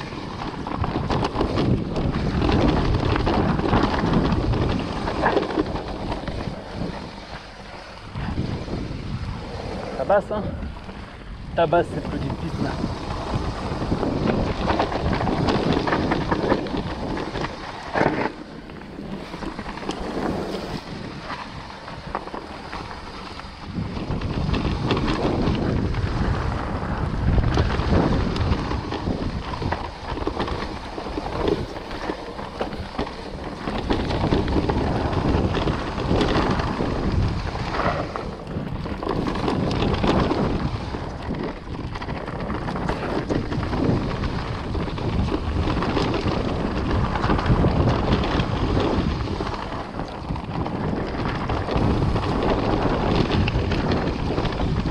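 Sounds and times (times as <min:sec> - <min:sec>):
bike rattling over rough ground: 0:00.0 - 0:54.9
wind buffeting microphone: 0:00.0 - 0:54.9.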